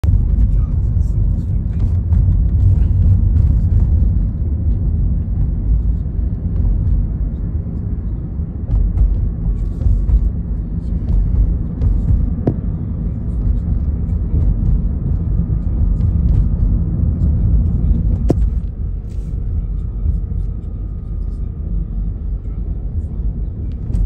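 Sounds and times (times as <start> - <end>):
car cabin road noise: 0.0 - 24.0.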